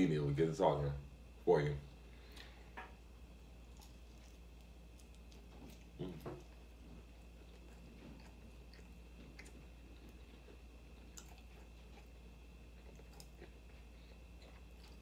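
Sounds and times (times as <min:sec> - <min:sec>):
chewing crunchy food: 0:02.3 - 0:15.0.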